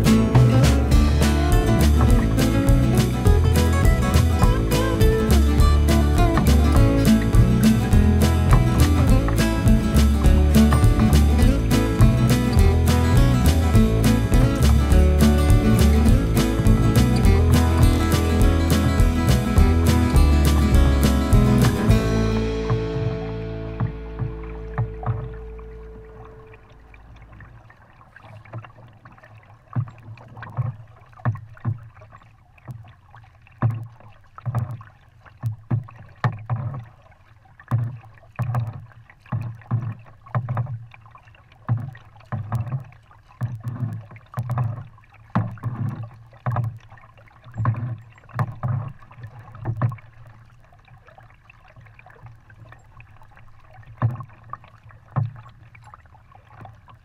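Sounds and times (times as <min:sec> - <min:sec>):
paddle splashing in water: 0:00.0 - 0:57.0.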